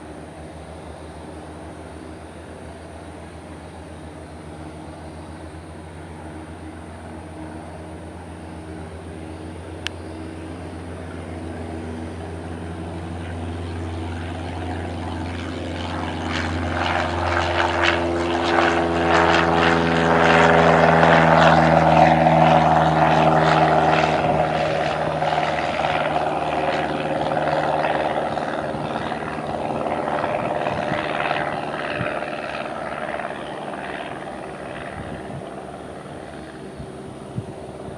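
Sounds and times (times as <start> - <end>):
propeller plane passing by: 0.0 - 37.9.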